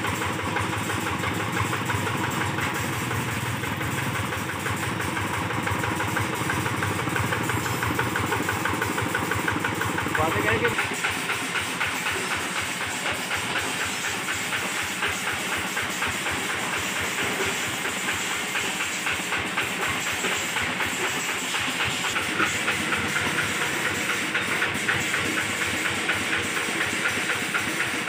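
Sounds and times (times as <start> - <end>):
diesel engine clattering: 0.0 - 28.0.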